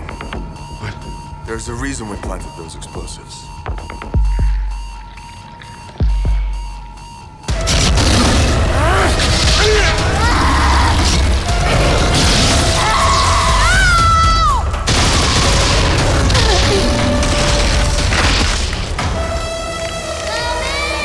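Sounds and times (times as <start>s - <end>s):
film score music: 0.0s - 21.0s.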